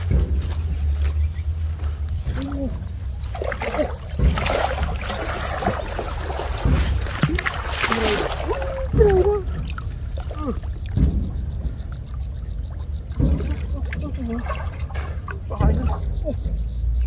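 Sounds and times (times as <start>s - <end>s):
water splashing from wading: 2.3s - 16.1s.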